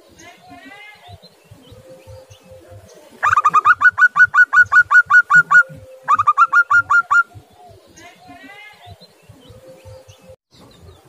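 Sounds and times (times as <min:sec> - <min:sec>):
dove staccato call: 0:00.5 - 0:10.4.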